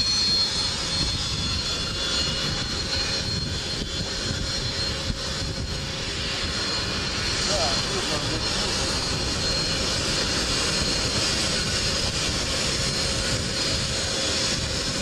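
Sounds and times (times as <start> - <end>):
faint high whine: 0.0 - 15.0
jet engines running: 0.0 - 15.0.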